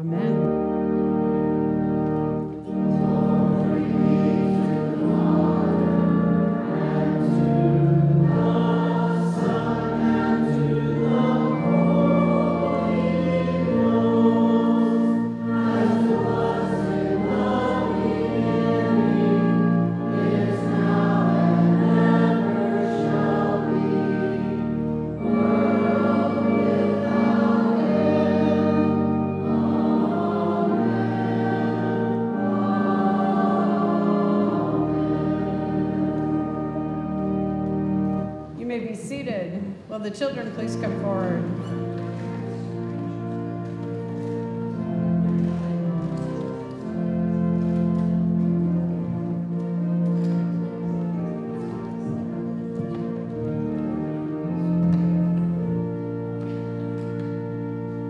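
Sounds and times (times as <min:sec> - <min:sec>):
congregation singing: 0:00.0 - 0:38.7, 0:40.5 - 0:58.0
organ chords: 0:00.0 - 0:58.0.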